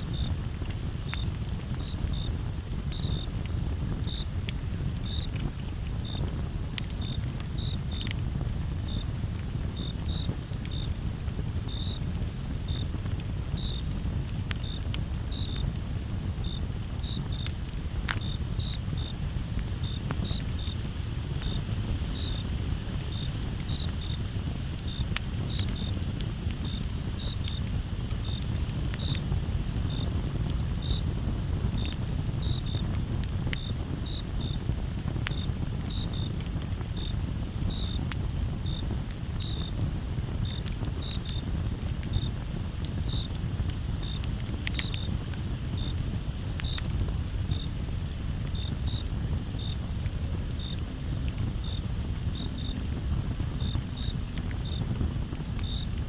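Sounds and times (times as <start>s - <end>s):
campfire crackling: 0.0s - 56.0s
crickets chirping: 0.1s - 56.0s
high insect trill: 0.1s - 56.0s.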